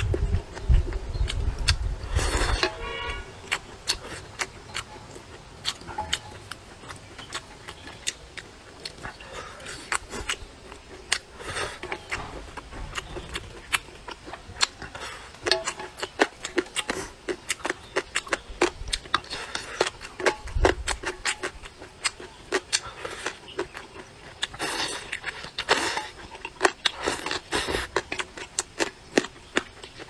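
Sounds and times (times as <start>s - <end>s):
person chewing and slurping noodles: 0.0s - 30.0s.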